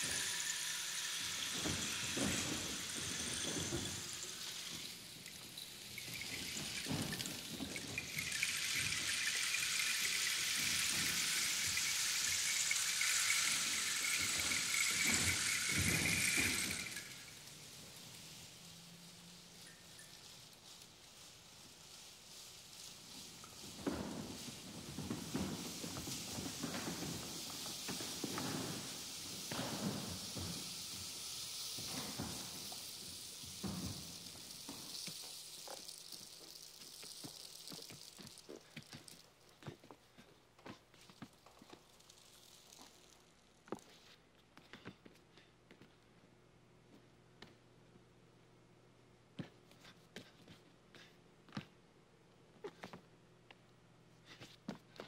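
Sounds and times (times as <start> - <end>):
rainstick trickling: 0.0 - 44.2.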